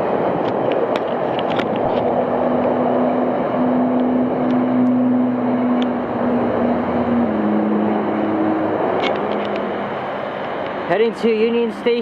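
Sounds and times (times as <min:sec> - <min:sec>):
droning engine tone: 0:00.0 - 0:12.0
train rumbling past: 0:00.0 - 0:12.0.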